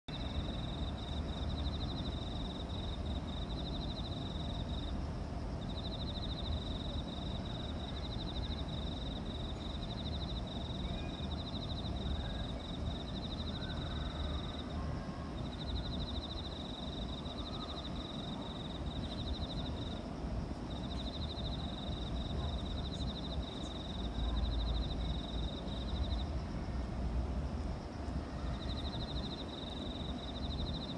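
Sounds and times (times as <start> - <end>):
insect chirping in trills: 0.1 - 30.9.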